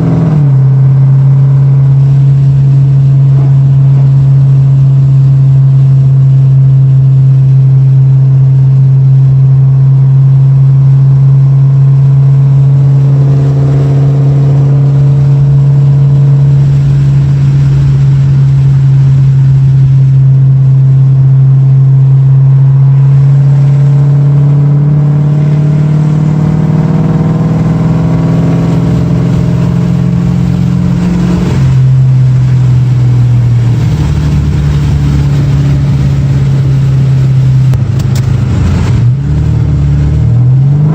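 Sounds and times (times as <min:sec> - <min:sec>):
loud car exhaust note: 0:00.0 - 0:40.9.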